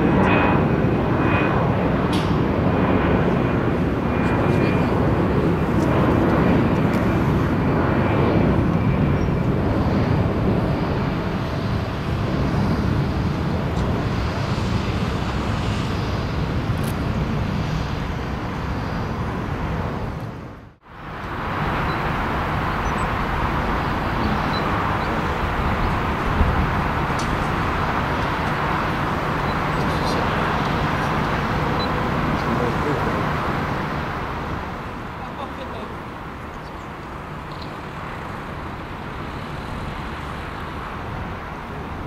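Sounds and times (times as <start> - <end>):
jet airliner rumble: 0.0 - 42.0
jet taxiing on runway: 0.0 - 42.0.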